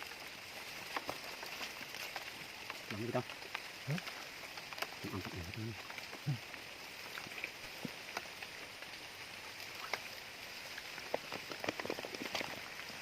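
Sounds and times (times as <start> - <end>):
drips and small splashes: 0.0 - 13.0
steady rain: 0.0 - 13.0.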